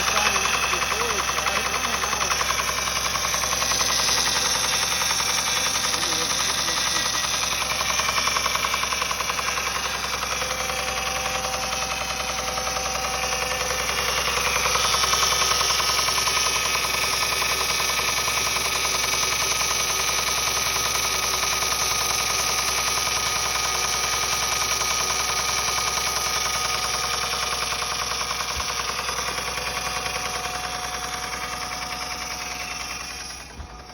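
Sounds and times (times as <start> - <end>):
car engine running: 0.0 - 33.9
rapid even engine knocking: 0.0 - 33.9.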